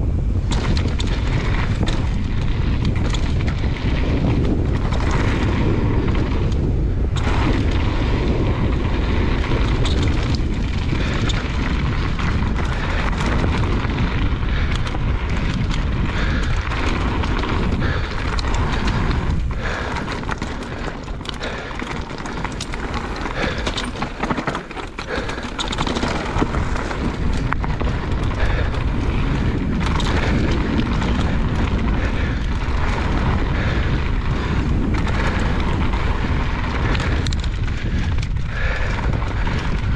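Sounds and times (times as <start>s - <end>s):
bike clicks and rattles: 0.0s - 39.9s
bike tyres rumbling on trail: 0.0s - 39.9s
wind buffeting microphone: 0.0s - 39.9s.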